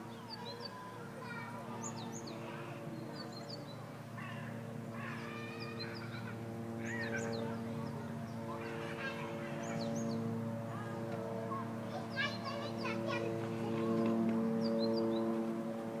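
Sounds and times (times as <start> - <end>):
small birds chirping: 0.0 - 15.4
children's voices: 0.1 - 14.8
low hum: 1.5 - 16.0.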